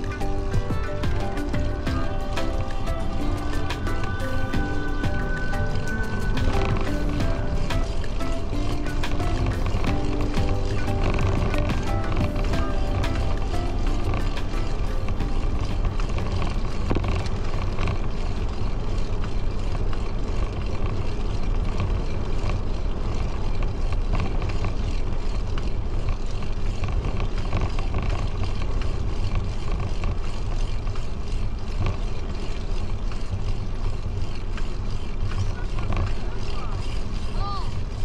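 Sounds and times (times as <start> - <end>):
bicycle tyre noise on pavement: 0.0 - 38.0.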